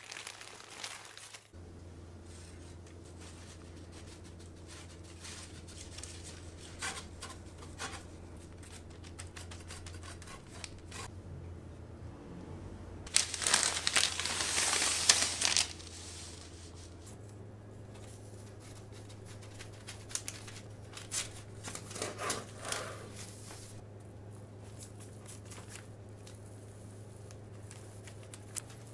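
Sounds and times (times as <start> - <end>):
parchment paper rustling: 0.0 - 1.6, 2.2 - 11.1, 13.1 - 28.9.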